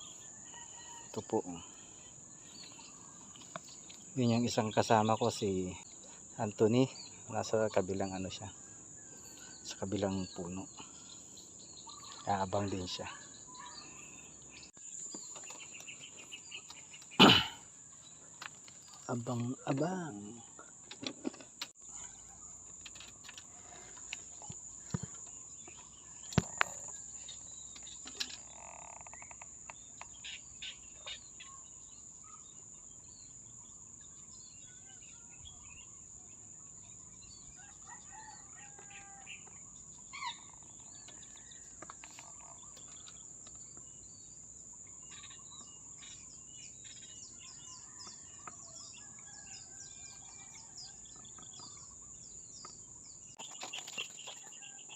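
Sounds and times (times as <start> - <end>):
bird chirps and calls: 0.0 - 20.7, 23.0 - 54.9.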